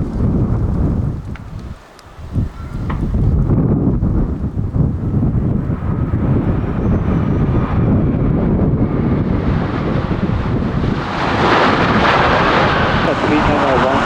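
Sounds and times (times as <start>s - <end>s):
jet engine roar: 0.0s - 14.0s
low rumble: 0.0s - 14.0s
wind buffeting microphone: 0.0s - 14.0s.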